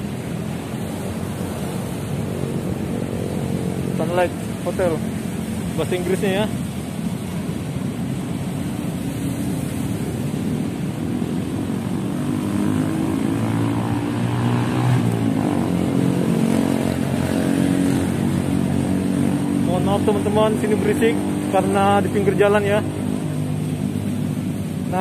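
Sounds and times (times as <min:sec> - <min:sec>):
road traffic: 0:00.0 - 0:25.0
vehicle engine hum: 0:00.0 - 0:25.0.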